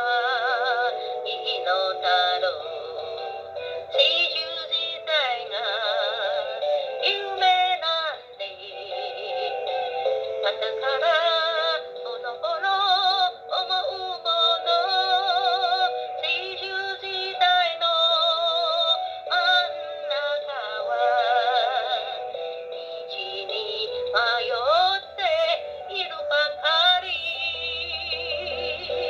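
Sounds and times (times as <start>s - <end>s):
woman singing with vibrato: 0.0s - 22.3s, 23.1s - 29.0s
music backing: 0.0s - 29.0s.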